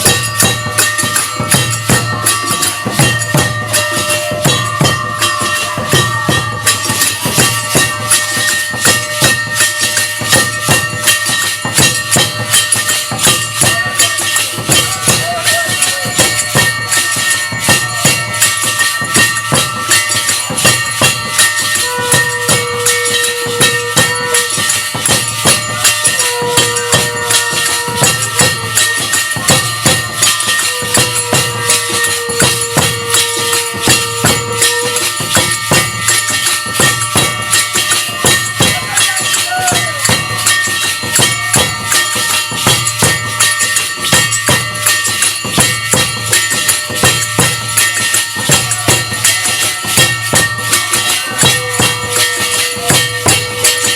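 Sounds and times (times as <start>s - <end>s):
metal percussion and drum: 0.0s - 53.9s
steady ringing tones: 0.0s - 53.9s.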